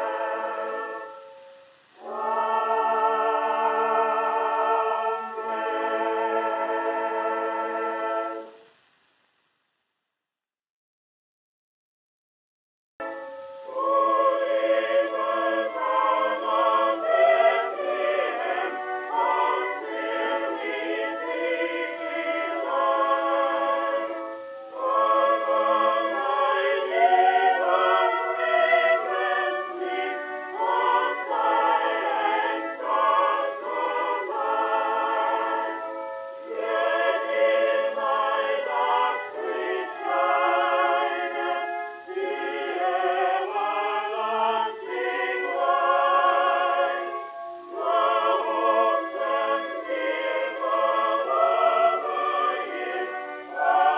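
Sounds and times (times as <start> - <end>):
choir singing long notes: 0.0 - 8.8, 13.0 - 53.9.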